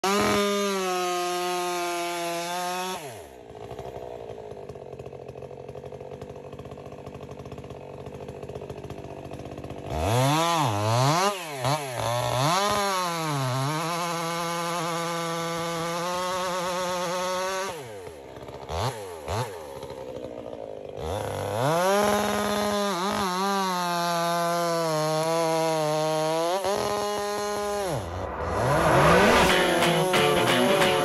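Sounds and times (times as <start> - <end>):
chainsaw revving and idling: 0.0 - 31.0.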